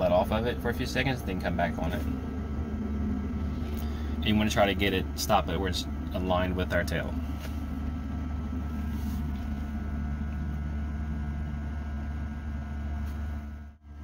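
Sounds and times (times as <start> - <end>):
helicopter rotor coasting down: 0.0 - 13.8.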